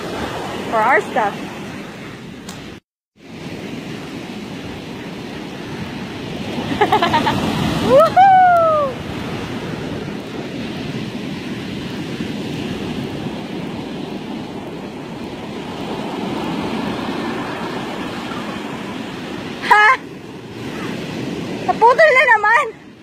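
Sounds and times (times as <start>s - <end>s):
ocean surf breaking on beach: 0.0s - 23.0s.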